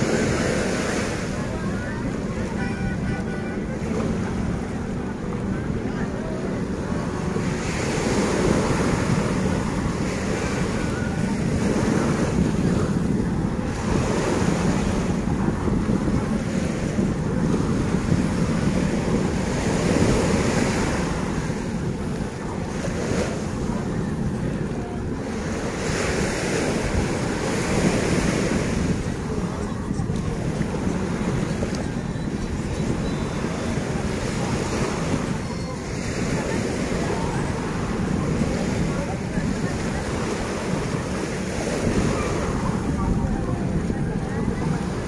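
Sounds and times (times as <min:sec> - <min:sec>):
small waves breaking on sand: 0:00.0 - 0:45.0
wind buffeting microphone: 0:00.0 - 0:45.0.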